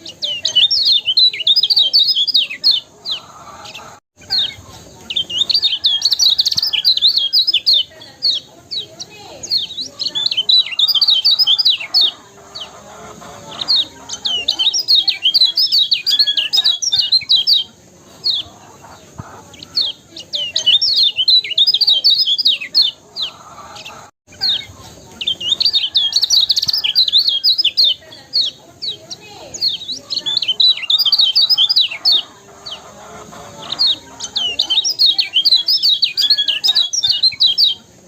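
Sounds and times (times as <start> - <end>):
songbird twittering: 0.0 - 38.0.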